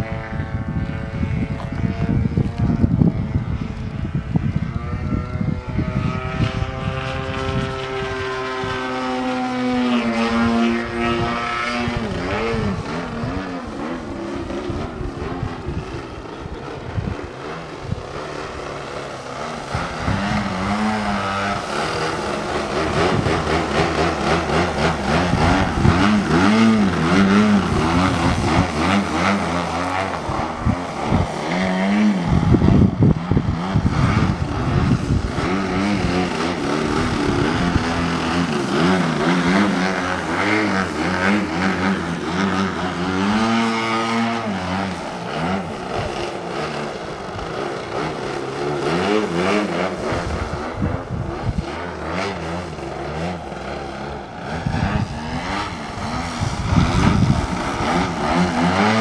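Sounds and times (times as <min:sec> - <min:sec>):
model aircraft engine: 0:00.0 - 0:59.0.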